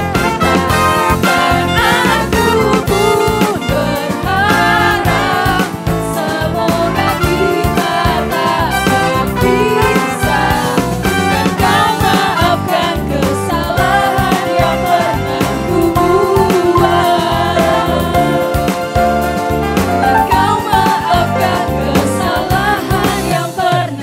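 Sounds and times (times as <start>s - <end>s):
upbeat song with singing: 0.0s - 24.0s.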